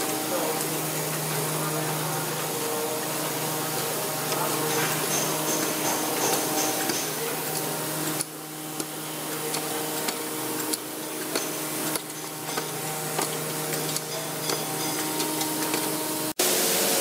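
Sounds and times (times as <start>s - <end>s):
machinery clicks and ticks: 0.0s - 16.4s
machinery humming: 0.0s - 17.0s.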